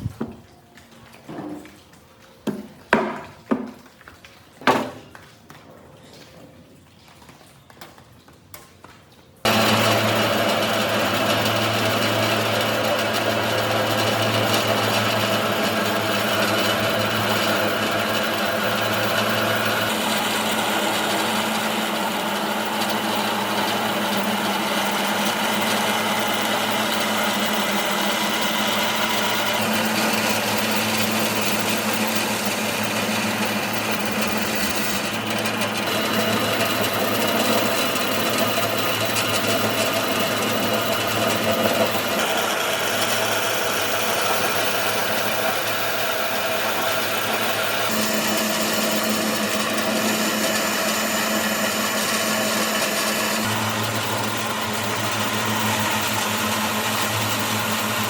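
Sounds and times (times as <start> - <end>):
woodworking machine humming: 9.4 - 58.0.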